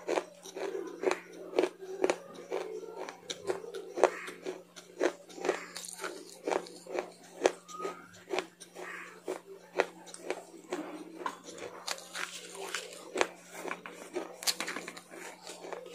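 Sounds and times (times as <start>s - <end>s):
chewing crunchy greens: 0.0s - 15.9s.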